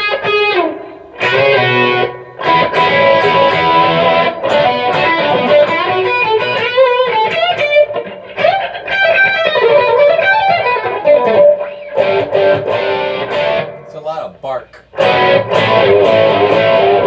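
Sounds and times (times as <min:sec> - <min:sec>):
overdriven electric guitar lead: 0:00.0 - 0:13.9, 0:14.8 - 0:17.0.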